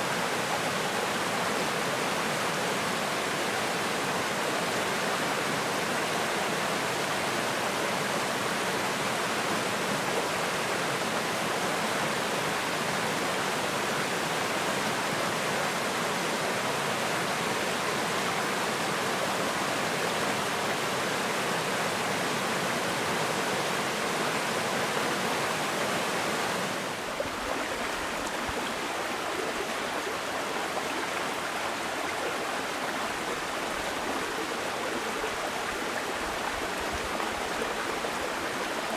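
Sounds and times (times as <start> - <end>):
creek rushing over rocks: 0.0 - 38.9.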